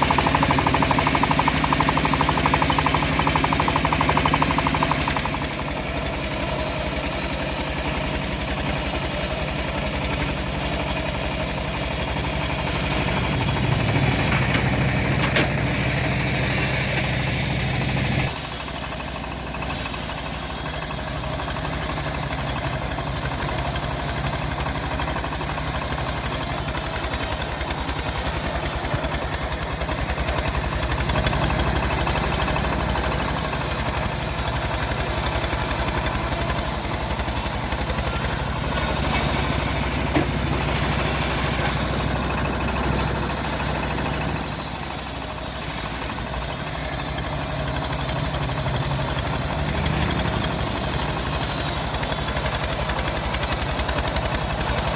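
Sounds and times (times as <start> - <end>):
engine running with pulsing hum: 0.0 - 54.9.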